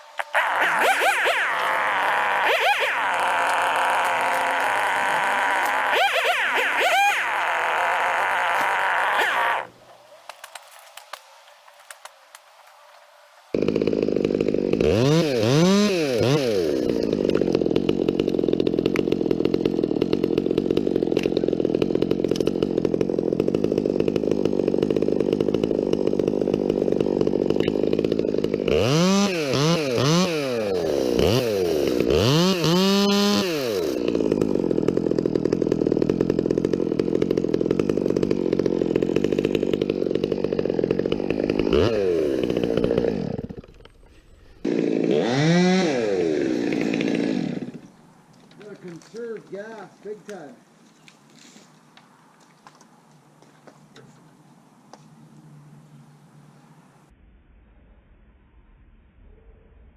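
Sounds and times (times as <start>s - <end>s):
chainsaw running: 0.0s - 12.8s, 13.5s - 50.6s.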